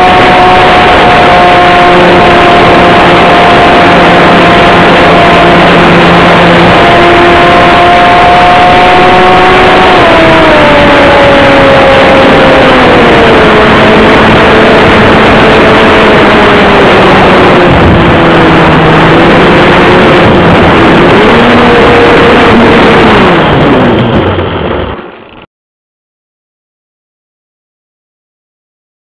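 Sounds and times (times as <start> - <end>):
model airplane motor whine: 0.0 - 23.5
wind rush: 0.0 - 25.4.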